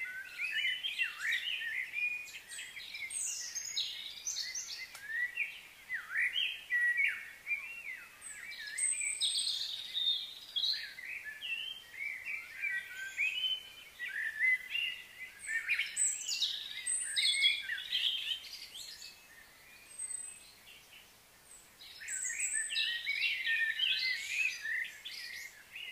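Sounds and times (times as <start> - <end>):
small birds twittering: 0.0 - 25.9.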